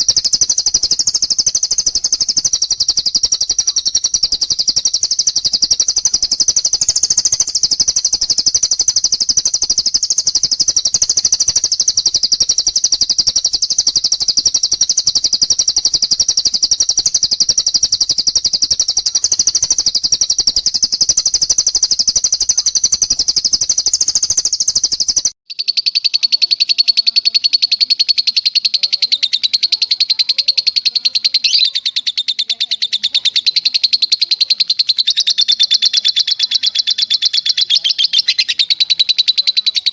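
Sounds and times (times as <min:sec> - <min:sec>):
bird trilling: 0:00.0 - 0:39.9
lower rapid bird trill: 0:00.0 - 0:39.9.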